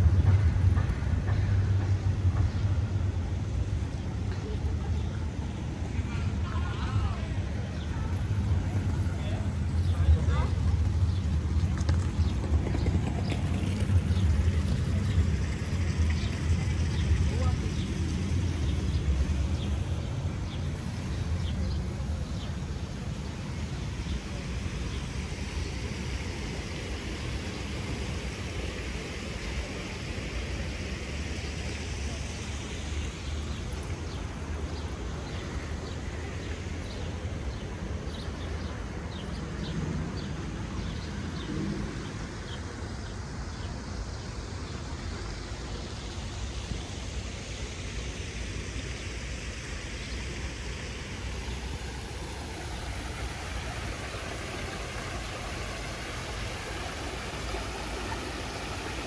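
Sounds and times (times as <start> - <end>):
cars passing: 0.0 - 59.0
road traffic rumble: 0.0 - 59.0.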